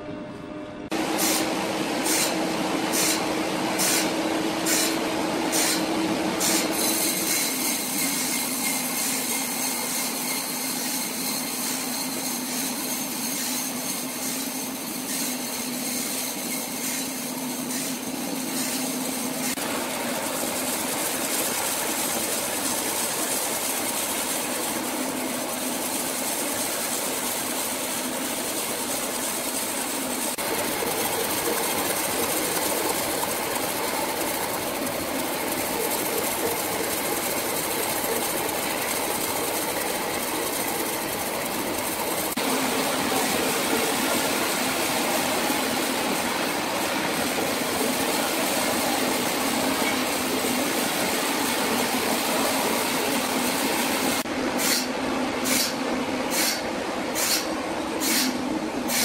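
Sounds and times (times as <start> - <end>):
sawmill machinery running: 0.8 - 59.0.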